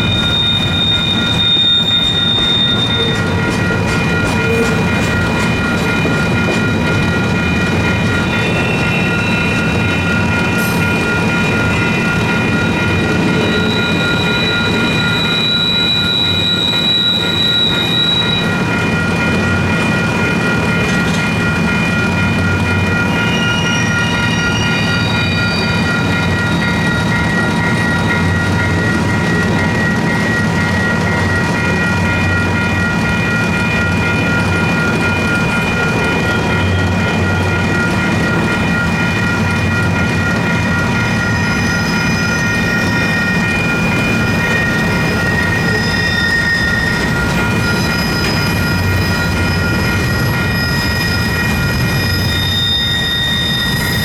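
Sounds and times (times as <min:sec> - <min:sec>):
electronic crossing bell ringing: 0:00.0 - 0:54.0
train wheels squealing: 0:00.0 - 0:54.0.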